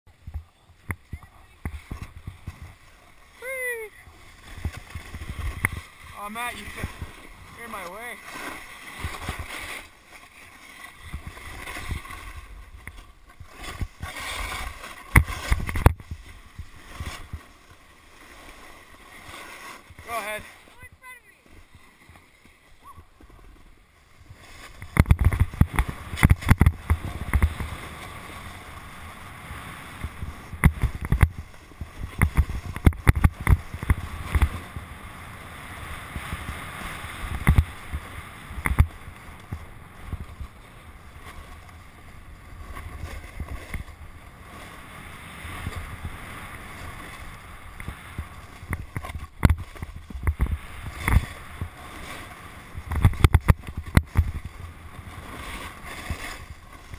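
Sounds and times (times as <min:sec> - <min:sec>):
snowboard scraping over snow: 0:00.1 - 0:56.9.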